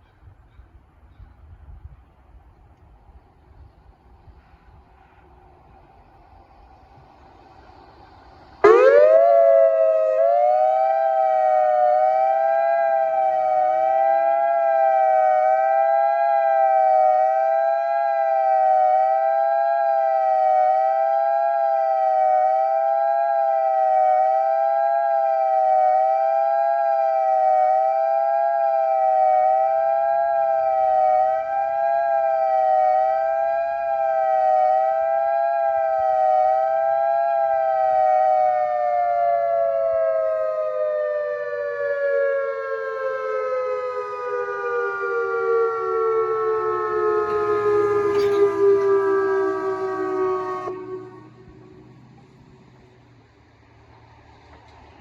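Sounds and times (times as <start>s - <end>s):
dual-tone warning siren: 2.3s - 53.3s.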